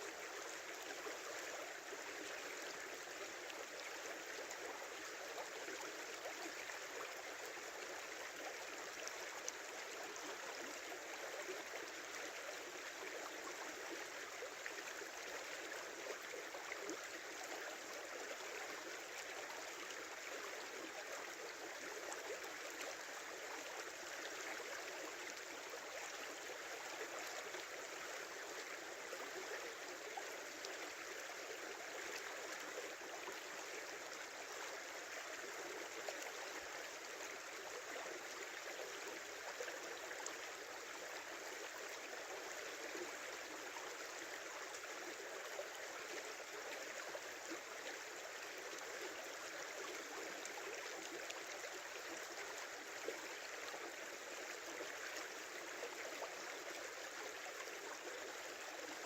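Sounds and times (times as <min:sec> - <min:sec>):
small river babbling: 0:00.0 - 0:59.0.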